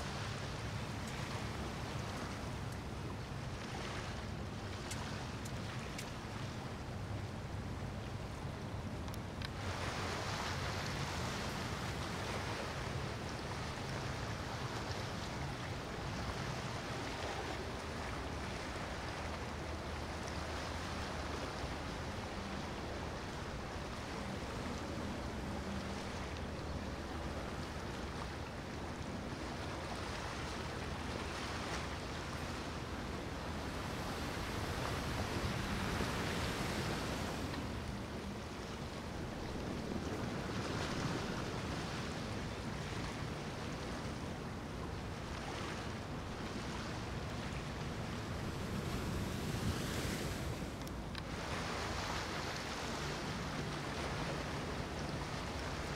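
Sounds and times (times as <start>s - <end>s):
motor boat engines droning: 0.0s - 49.2s
choppy water: 0.0s - 55.9s
wind: 0.0s - 55.9s.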